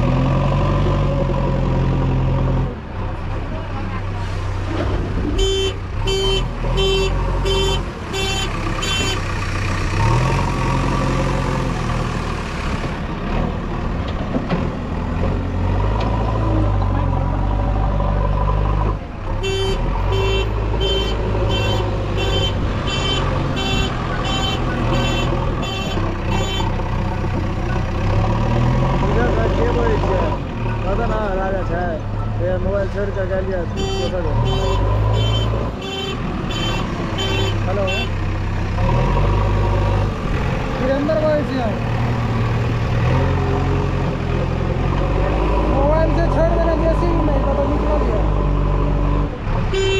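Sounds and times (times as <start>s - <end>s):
heavy diesel engine revving: 0.0s - 2.8s, 5.9s - 49.9s.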